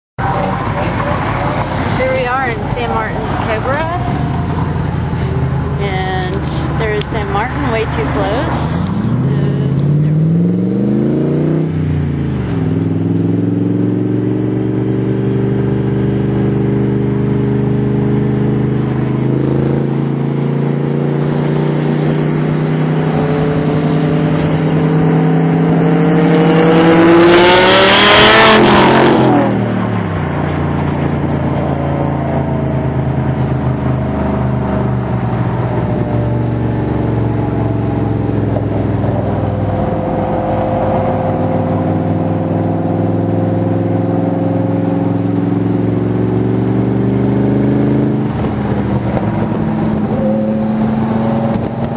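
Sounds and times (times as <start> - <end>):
car engine cruising and accelerating: 0.2 - 51.9.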